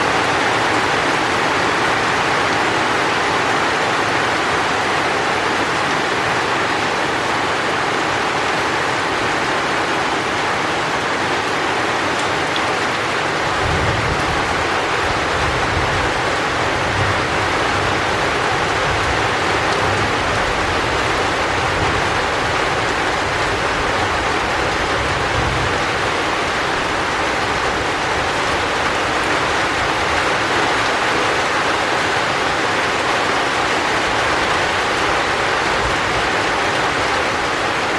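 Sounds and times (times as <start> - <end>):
heavy rain: 0.0 - 37.9.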